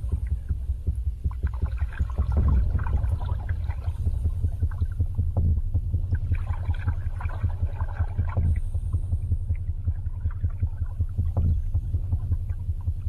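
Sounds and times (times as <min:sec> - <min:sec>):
underwater low rumble: 0:00.0 - 0:13.0
water gurgles and bubbles: 0:00.0 - 0:13.0.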